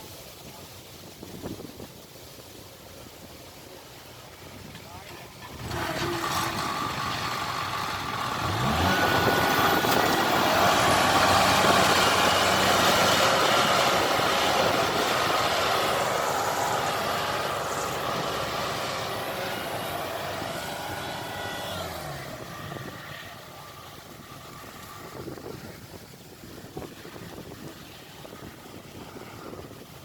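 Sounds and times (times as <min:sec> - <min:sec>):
combine harvester diesel engine: 0:02.3 - 0:30.0.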